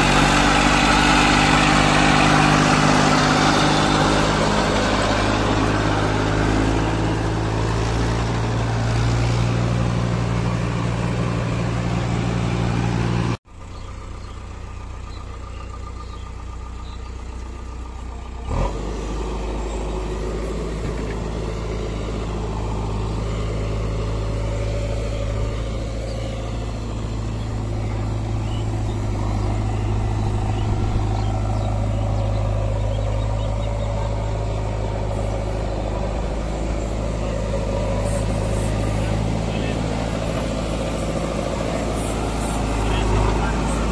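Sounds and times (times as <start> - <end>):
diesel engines idling: 0.0 - 43.9
diesel tractor engine running: 0.0 - 43.9.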